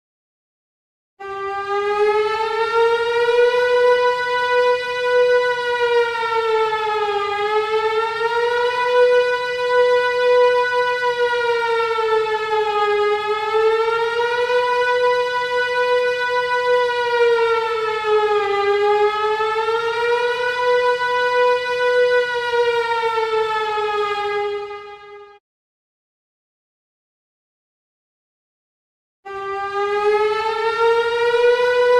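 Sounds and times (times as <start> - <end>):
siren wail: 1.2 - 25.4, 29.3 - 31.9.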